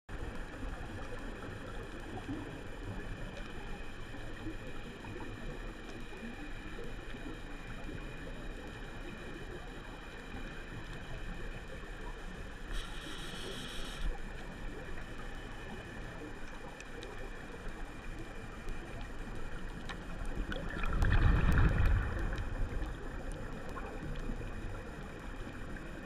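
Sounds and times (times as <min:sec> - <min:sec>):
faint ticks: 0:00.1 - 0:26.0
muffled underwater rush: 0:00.1 - 0:26.0.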